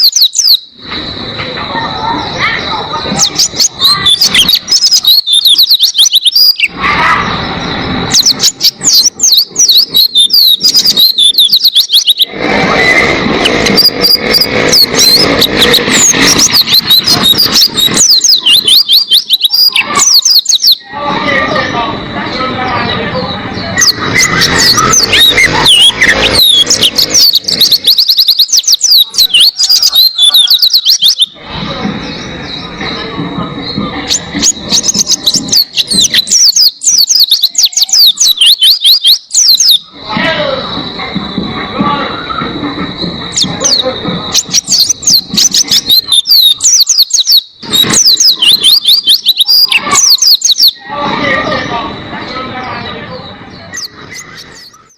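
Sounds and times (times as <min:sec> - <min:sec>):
bird singing high whistled song: 0:00.0 - 0:06.8, 0:07.5 - 0:20.9, 0:23.2 - 0:31.4, 0:32.0 - 0:40.0, 0:42.0 - 0:50.8, 0:53.5 - 0:54.9.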